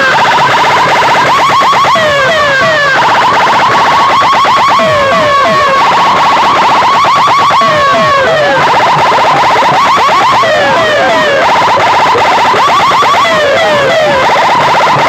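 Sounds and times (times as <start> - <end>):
electronic siren chirps and sweeps: 0.0 - 15.0.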